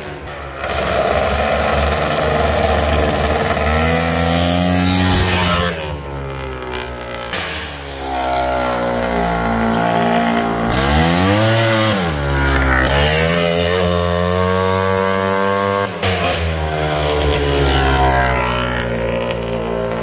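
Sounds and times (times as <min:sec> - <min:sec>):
two-stroke motorcycle engine: 0:00.0 - 0:20.0.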